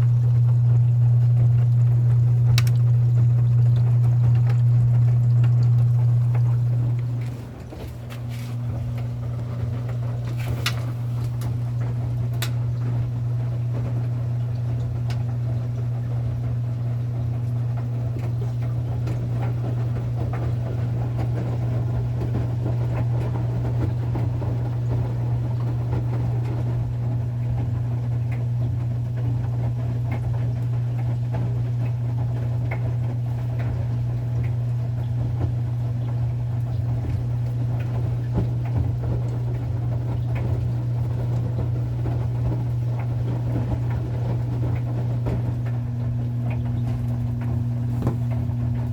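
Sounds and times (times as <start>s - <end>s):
washing machine running: 0.0s - 48.9s.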